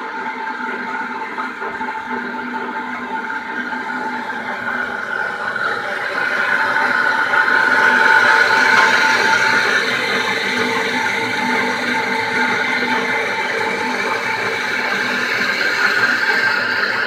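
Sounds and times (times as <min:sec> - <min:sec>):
mixer motor hum and whine: 0:00.0 - 0:17.0.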